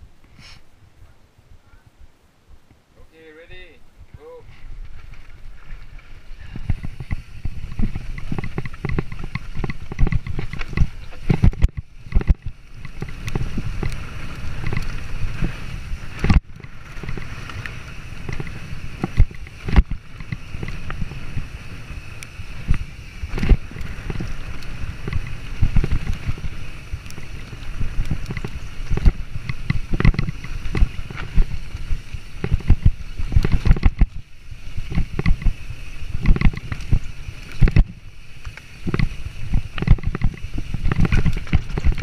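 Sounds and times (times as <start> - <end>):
wind on microphone: 3.8 - 42.0
wheels knocking on roots: 4.0 - 42.0
bike clattering and rattling: 4.5 - 42.0.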